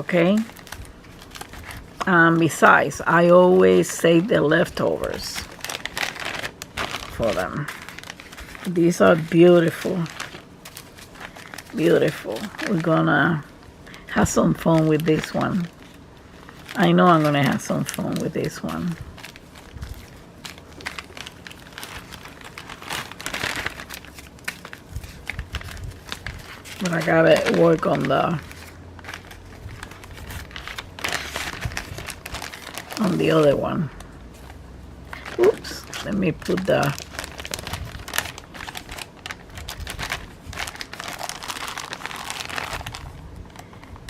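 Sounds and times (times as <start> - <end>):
plastic packaging crinkling: 0.0 - 44.0.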